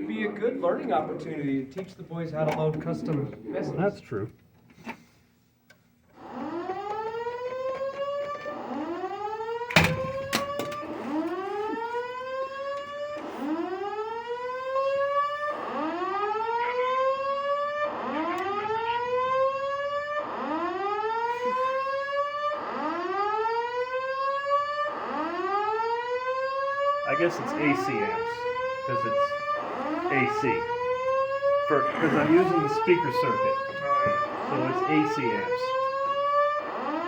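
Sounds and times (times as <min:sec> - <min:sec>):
whoop evacuation alarm tone: 0:06.1 - 0:37.0.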